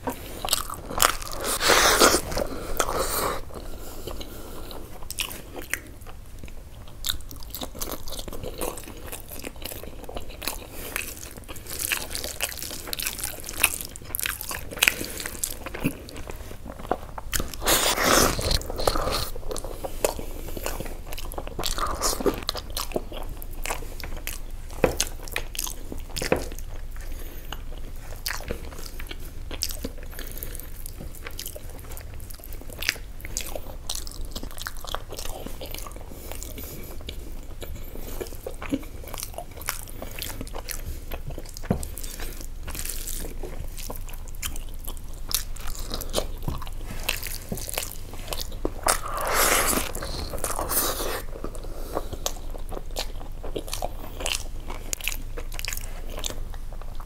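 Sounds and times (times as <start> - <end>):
man chewing and eating: 0.0 - 57.0.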